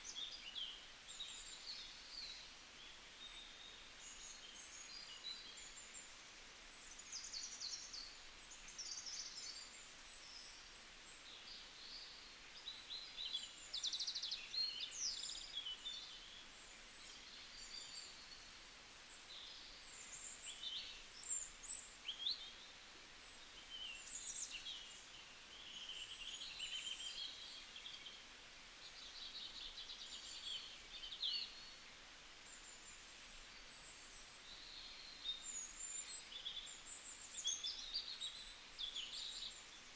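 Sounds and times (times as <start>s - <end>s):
faint steady hiss: 0.0s - 39.9s
small songbirds chirping: 0.0s - 39.9s.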